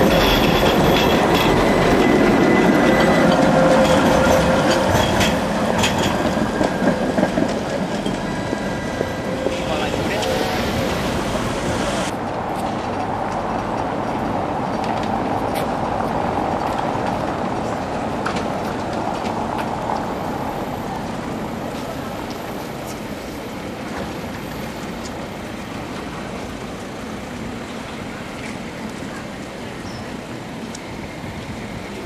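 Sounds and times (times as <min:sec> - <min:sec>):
electric tram rumbling on track: 0:00.0 - 0:32.0.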